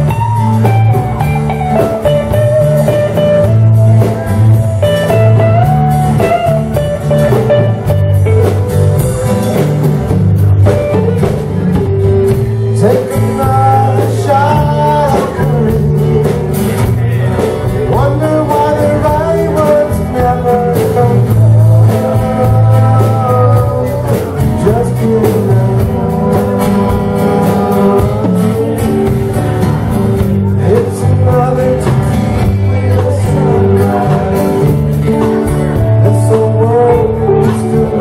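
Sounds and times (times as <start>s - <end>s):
live country-rock band playing: 0.0s - 38.0s.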